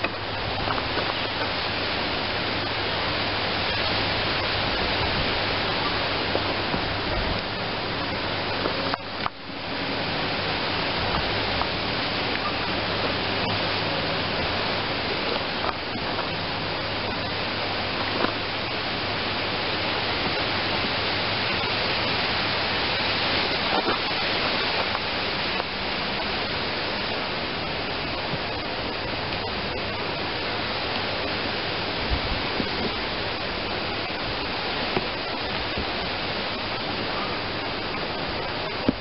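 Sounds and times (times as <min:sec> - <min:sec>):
static hiss: 0:00.0 - 0:39.0.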